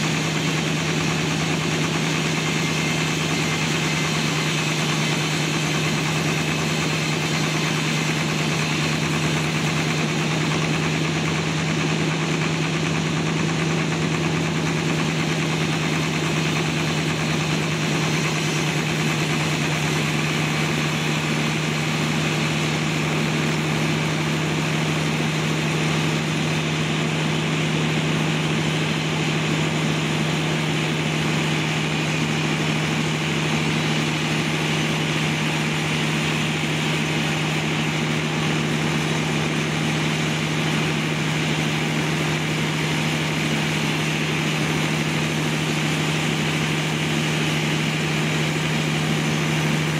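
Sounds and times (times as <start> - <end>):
sawmill engine droning: 0.0 - 49.9.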